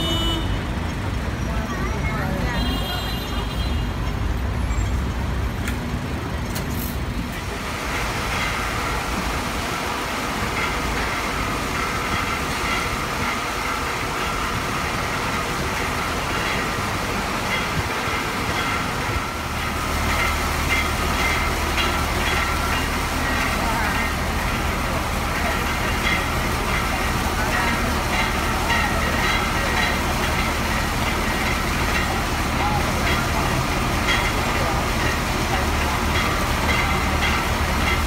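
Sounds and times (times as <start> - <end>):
fire engine running: 0.0 - 38.0
traffic noise: 0.0 - 38.0.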